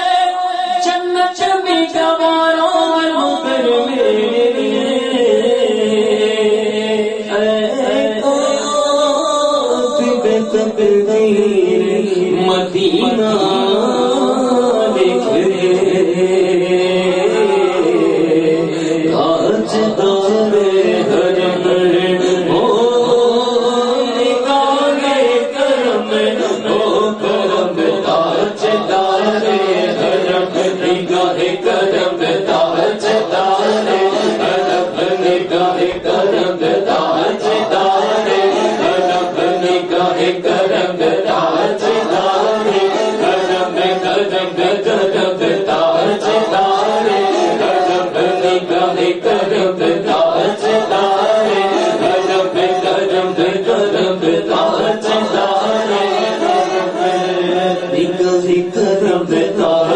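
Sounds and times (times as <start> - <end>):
men singing through microphones: 0.0 - 59.9.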